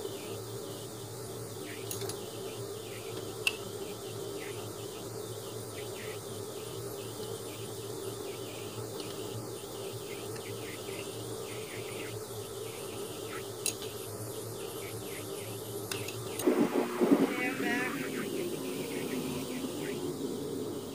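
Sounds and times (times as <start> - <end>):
crickets chirping: 0.0 - 20.9
low steady hum: 0.0 - 20.9.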